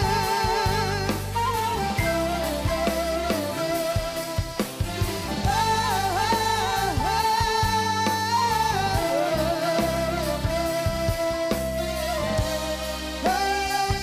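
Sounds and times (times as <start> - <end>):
band and orchestra playing: 0.0 - 14.0
man singing long notes: 0.0 - 14.0.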